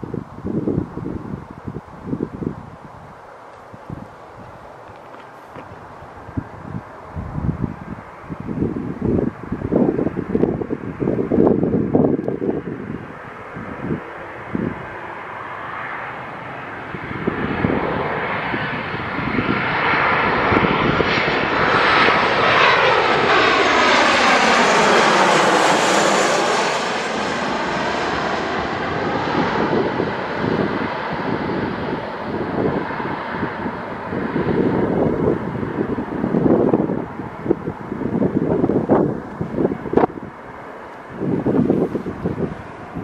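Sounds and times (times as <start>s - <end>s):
jet airliner passing overhead: 0.0s - 43.0s
wind buffeting microphone: 0.0s - 43.0s.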